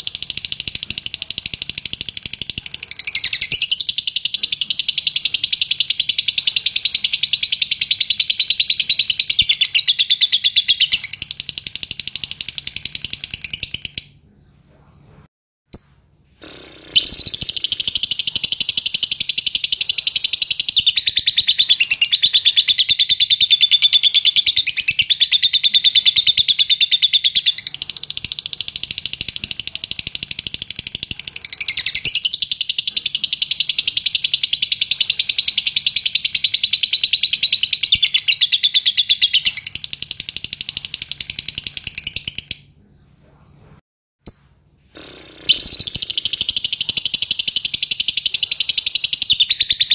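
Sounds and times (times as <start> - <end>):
lovebird chattering trill: 0.0 - 14.1, 15.7 - 42.6, 44.3 - 49.9.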